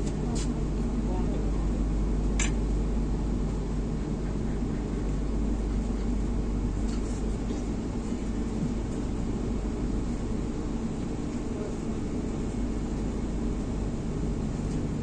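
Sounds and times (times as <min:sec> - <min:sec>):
train coach running noise: 0:00.0 - 0:15.0.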